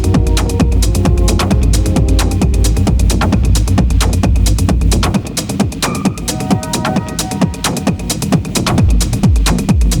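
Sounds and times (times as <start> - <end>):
deep bass: 0.0 - 10.0
hard techno music: 0.0 - 10.0.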